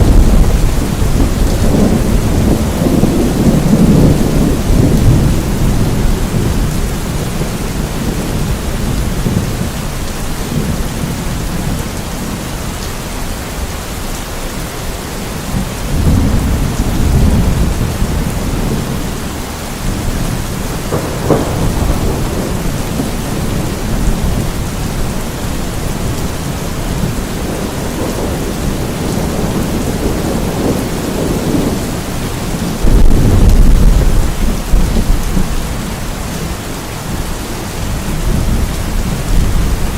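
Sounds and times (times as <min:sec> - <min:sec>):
thunder rumbling: 0:00.0 - 0:12.6, 0:15.4 - 0:39.9
steady rain: 0:00.0 - 0:39.9.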